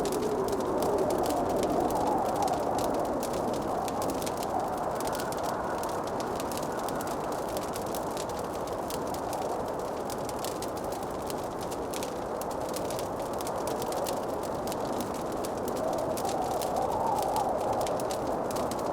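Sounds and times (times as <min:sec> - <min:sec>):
wood fire crackling: 0:00.0 - 0:18.9.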